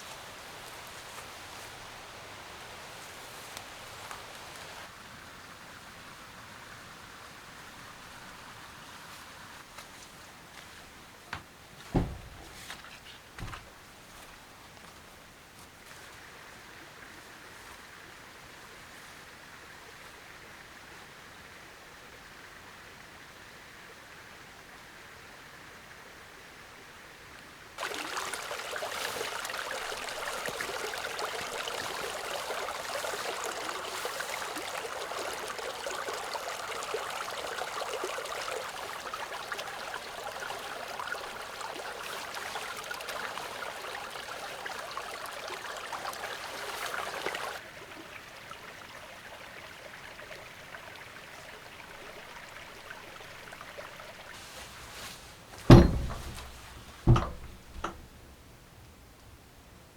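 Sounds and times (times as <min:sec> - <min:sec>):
rushing water: 0:00.0 - 0:25.3, 0:27.4 - 0:58.2
faint steady hiss: 0:00.0 - 0:59.9.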